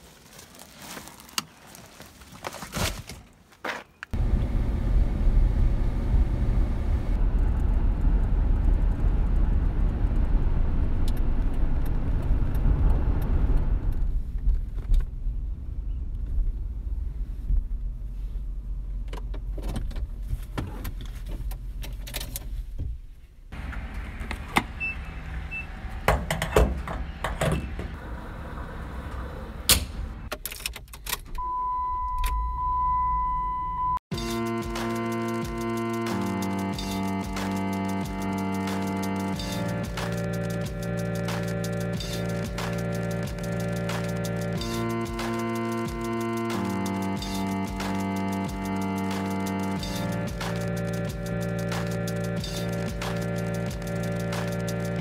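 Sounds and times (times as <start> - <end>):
car engine and road noise: 3.9 - 55.0.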